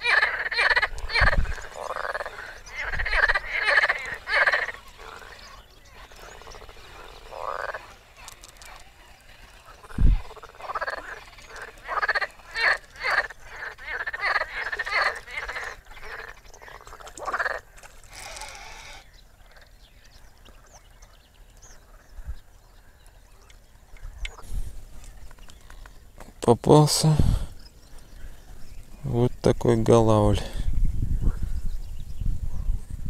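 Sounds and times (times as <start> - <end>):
frogs croaking: 0.0 - 29.6.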